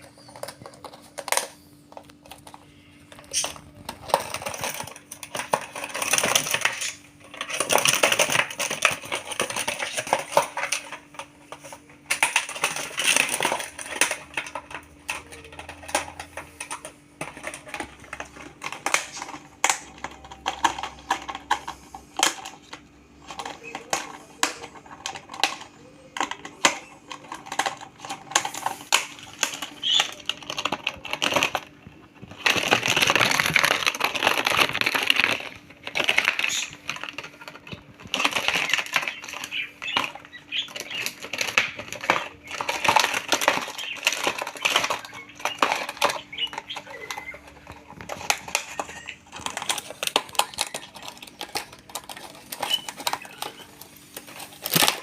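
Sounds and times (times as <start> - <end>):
birds tapping on hard surface: 0.0 - 55.0.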